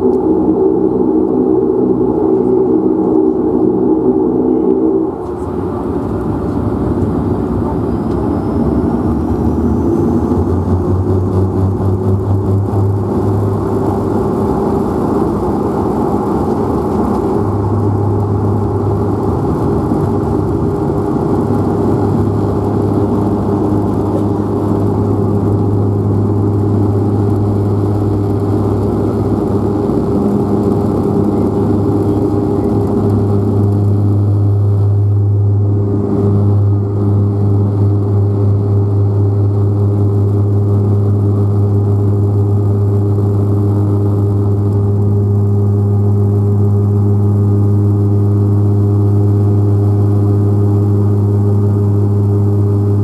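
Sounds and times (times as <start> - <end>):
deep propeller drone: 0.0 - 53.0
runway rumble: 0.0 - 53.0.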